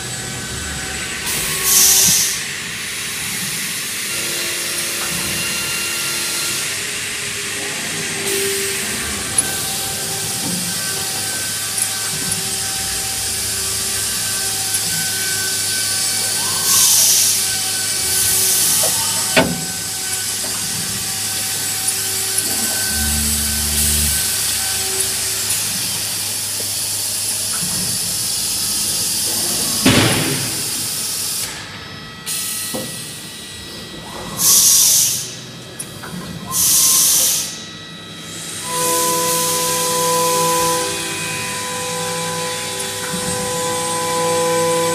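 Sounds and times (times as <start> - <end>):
wood router cutting hiss: 0.0 - 31.7, 34.4 - 35.5, 36.5 - 44.9.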